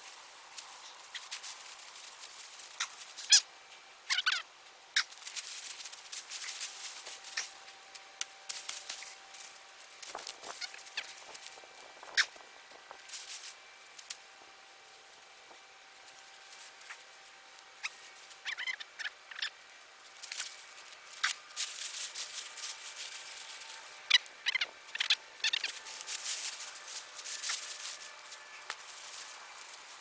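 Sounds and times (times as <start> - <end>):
scraping and rustling in soil: 5.0 - 30.0.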